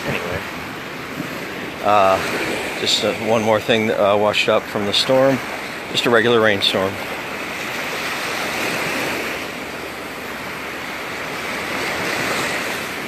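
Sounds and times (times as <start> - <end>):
surf washing onto sand: 0.0 - 13.0.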